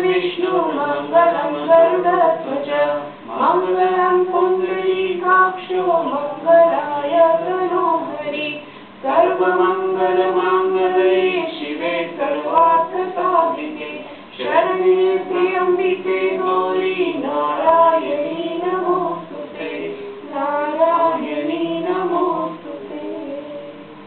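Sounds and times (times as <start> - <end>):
group singing devotional verse: 0.0 - 23.8.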